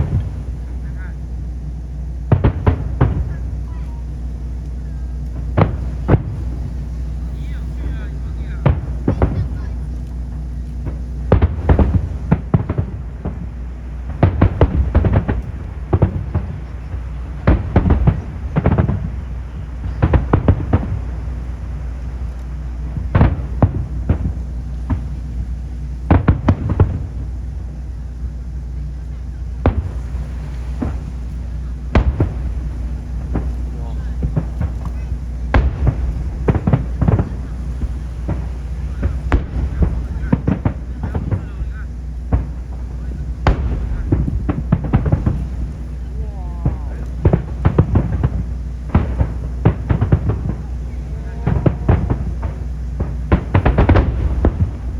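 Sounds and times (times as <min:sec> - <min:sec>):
fireworks bursting with sharp bangs: 0:00.0 - 0:54.9
low rumble: 0:00.0 - 0:54.9.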